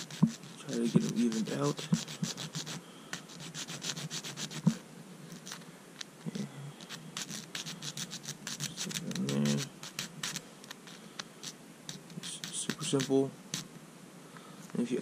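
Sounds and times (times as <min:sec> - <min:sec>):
needle file rasping on plastic: 0:00.0 - 0:05.6, 0:06.8 - 0:13.7.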